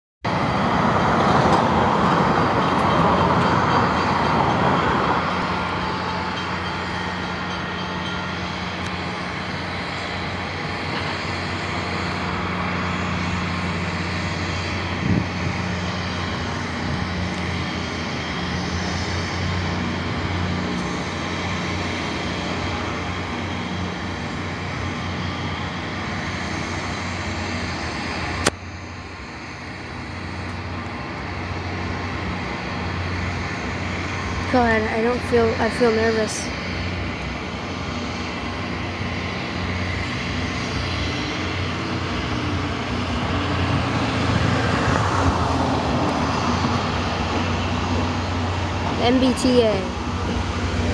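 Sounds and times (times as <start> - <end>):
diesel train low hum: 0.2 - 50.9
rush of noise: 0.2 - 50.9.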